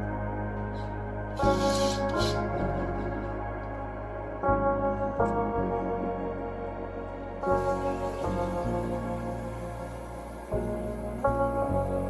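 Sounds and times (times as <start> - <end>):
soft new-age keyboard music: 0.0 - 12.0.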